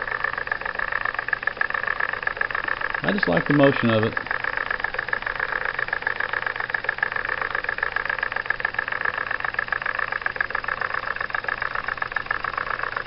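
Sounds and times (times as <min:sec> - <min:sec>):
coffee grinder clatter: 0:00.0 - 0:13.0.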